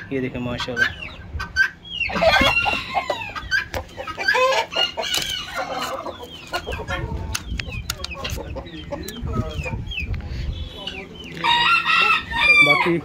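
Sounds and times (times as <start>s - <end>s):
chickens and roosters clucking: 0.0s - 13.0s.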